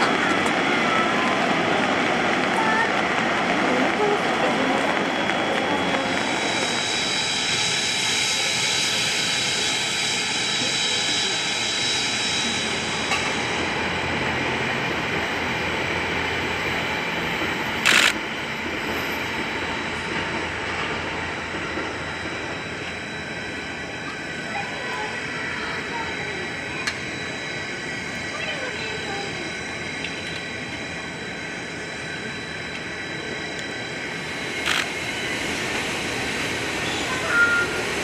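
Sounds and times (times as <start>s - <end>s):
steam locomotive hissing steam: 3.9s - 38.0s.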